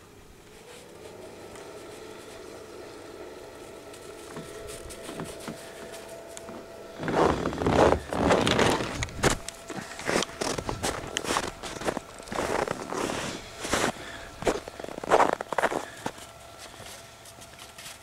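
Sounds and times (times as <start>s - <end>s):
faint steady hum: 0.0s - 18.0s
footsteps crunching through snow: 0.5s - 18.0s.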